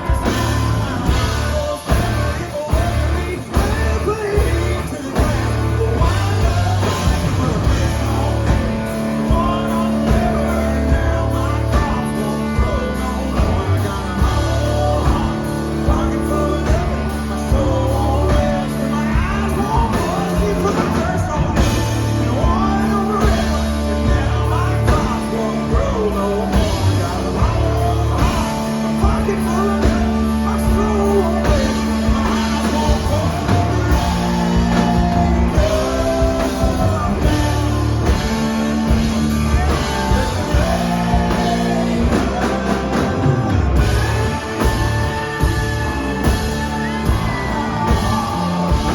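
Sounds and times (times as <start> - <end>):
person singing: 0.0 - 48.9
rock band playing live: 0.0 - 48.9.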